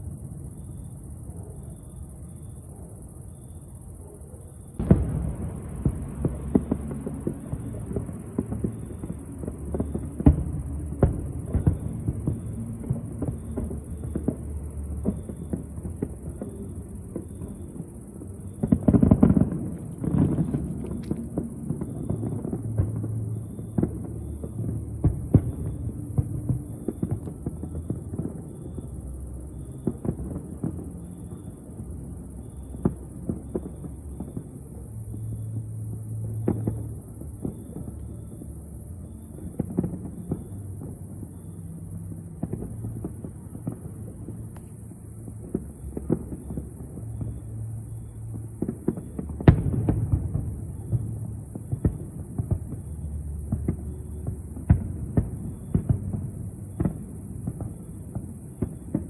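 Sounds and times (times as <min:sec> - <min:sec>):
distant fireworks bangs: 0:03.6 - 0:59.0.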